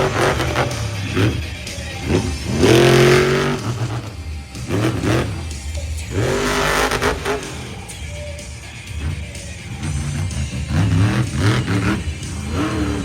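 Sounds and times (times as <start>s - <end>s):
music playing: 0.0s - 13.0s
truck engine revving: 0.0s - 13.0s.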